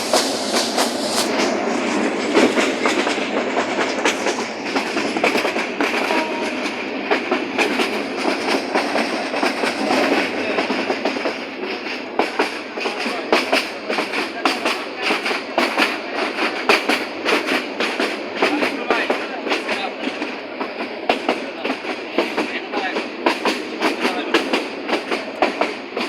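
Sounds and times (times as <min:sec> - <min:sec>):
train rumbling and rattling: 0:00.0 - 0:26.0
wheels clicking on rail joints: 0:00.0 - 0:26.0.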